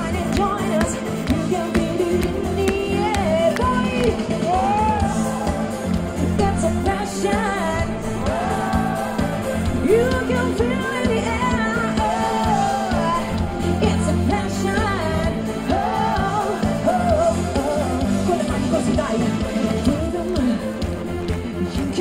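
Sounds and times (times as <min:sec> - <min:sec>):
live band playing dance-pop: 0:00.0 - 0:22.0
person singing: 0:00.0 - 0:22.0
steady bass line: 0:00.0 - 0:22.0.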